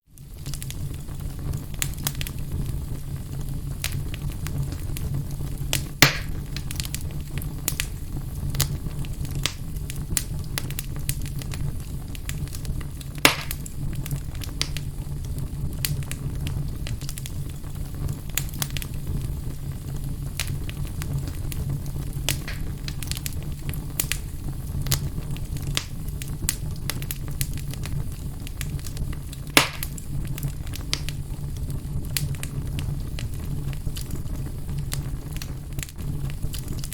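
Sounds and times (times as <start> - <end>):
fire crackling: 0.0 - 36.9
low rumble of flames: 0.0 - 36.9
loud fire pops: 0.1 - 36.9.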